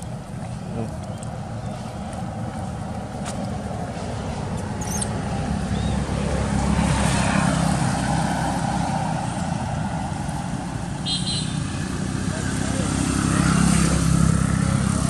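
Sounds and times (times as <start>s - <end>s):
vehicle engine passing: 1.5s - 15.0s.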